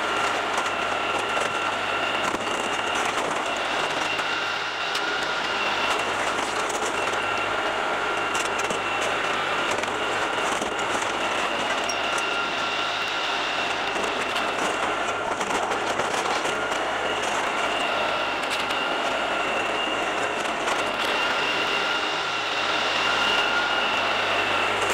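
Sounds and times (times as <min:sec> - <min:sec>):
steady high whine: 0:00.0 - 0:24.9
tractor diesel engine running: 0:00.0 - 0:24.9.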